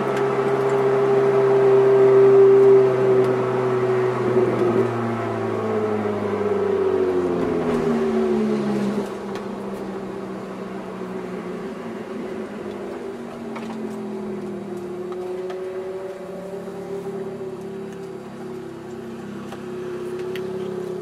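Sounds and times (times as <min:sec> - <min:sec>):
car engine from inside cabin: 0:00.0 - 0:21.0.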